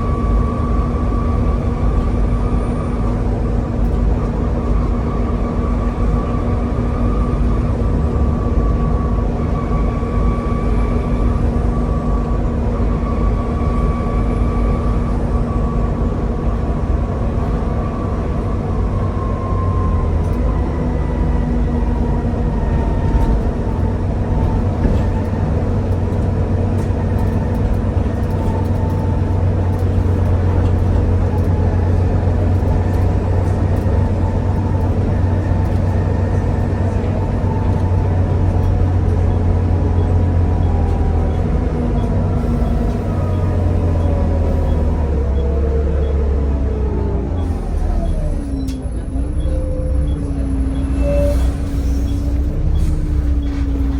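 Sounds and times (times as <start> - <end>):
bus diesel engine drone: 0.0 - 53.9.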